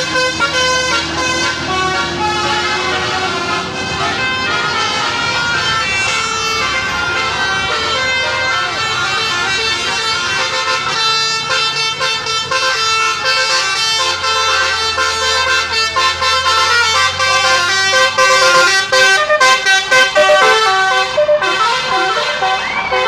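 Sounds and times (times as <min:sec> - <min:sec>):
musical air horn melody: 0:00.0 - 0:23.0.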